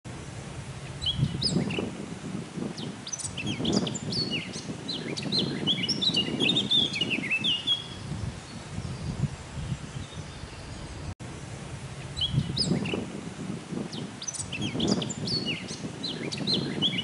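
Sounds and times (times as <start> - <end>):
bird singing whistled notes: 0.8 - 2.0, 2.7 - 11.1, 12.0 - 13.1, 13.9 - 17.0.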